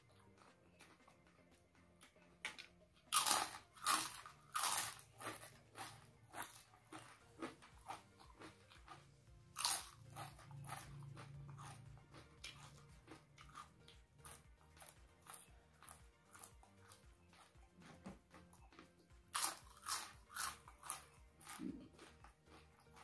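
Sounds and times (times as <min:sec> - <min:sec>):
crunching crackers: 0:00.0 - 0:23.0.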